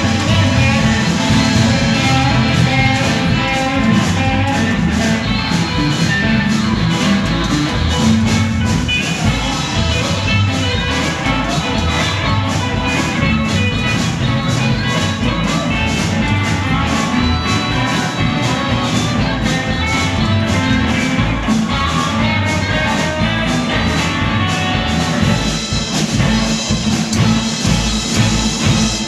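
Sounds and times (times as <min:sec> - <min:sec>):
electric guitar: 0:00.0 - 0:29.0
rockabilly band playing: 0:00.0 - 0:29.0.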